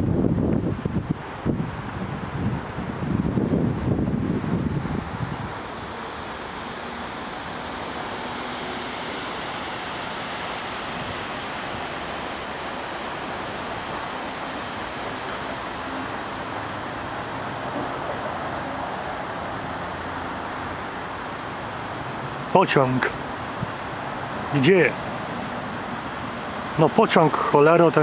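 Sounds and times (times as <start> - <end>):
wind rushing: 0.0 - 27.5.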